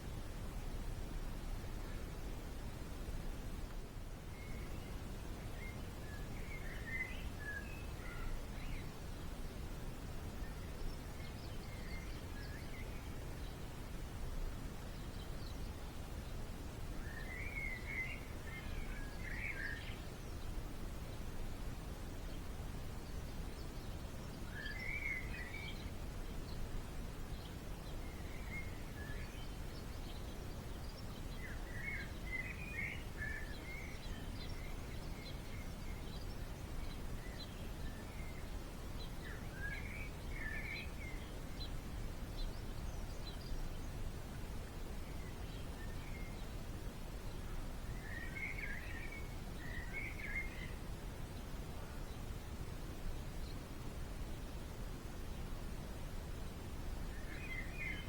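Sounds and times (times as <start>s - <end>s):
small birds chirping: 4.2s - 58.0s.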